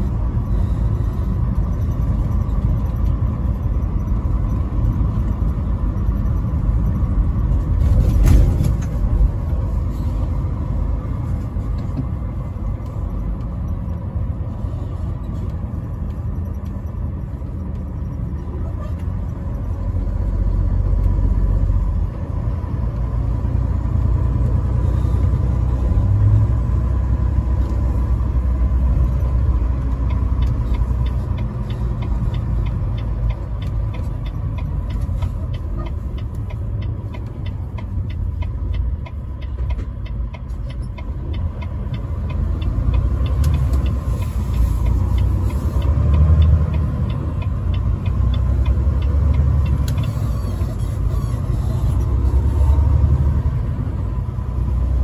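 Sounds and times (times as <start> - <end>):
truck engine and tyres rumbling: 0.0 - 55.0.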